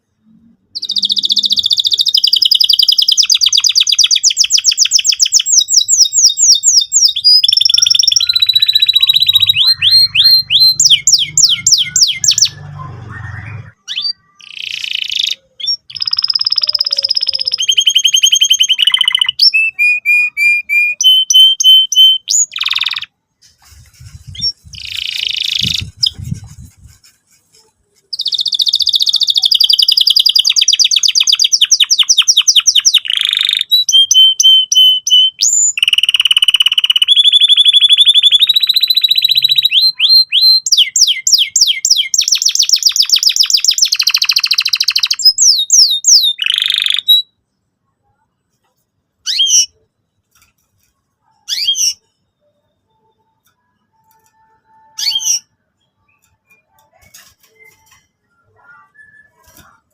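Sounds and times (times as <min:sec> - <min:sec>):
canary singing: 0:00.5 - 0:47.4, 0:49.2 - 0:59.9.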